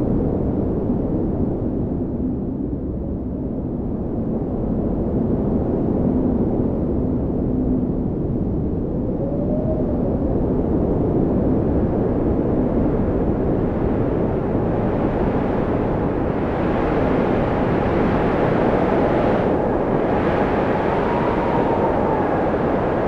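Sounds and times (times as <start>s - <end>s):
blizzard wind blowing hard: 0.0s - 23.0s
whistling wind tones: 0.0s - 23.0s.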